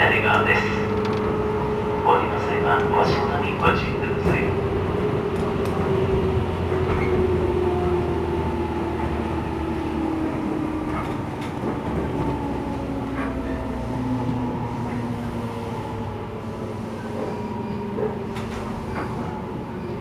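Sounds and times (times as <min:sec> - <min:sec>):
train traction motors whining: 0:00.0 - 0:20.0
wheels rumbling on rail: 0:00.0 - 0:20.0.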